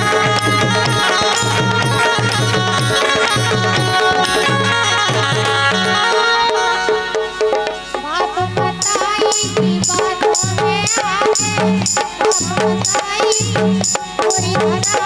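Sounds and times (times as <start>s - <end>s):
hand drum rhythm: 0.0s - 15.0s.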